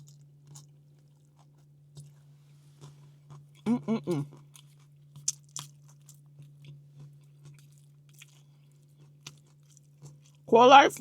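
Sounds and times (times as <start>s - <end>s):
person chewing and crunching: 0.0s - 10.5s.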